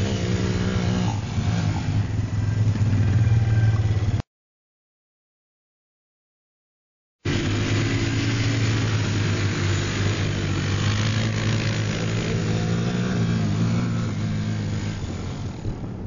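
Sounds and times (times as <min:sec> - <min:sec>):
quad bike engine under load: 0:00.0 - 0:04.2, 0:07.3 - 0:16.0.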